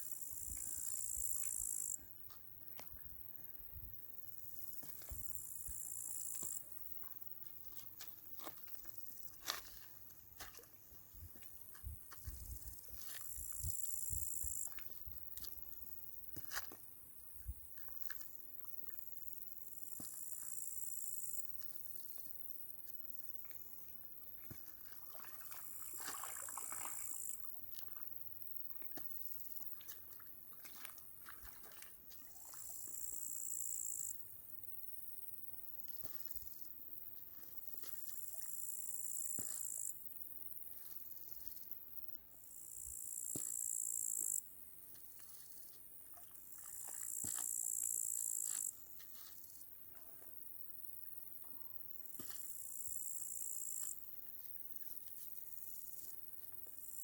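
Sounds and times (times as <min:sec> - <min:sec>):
crickets trilling: 0:00.0 - 0:10.0, 0:10.6 - 0:57.0.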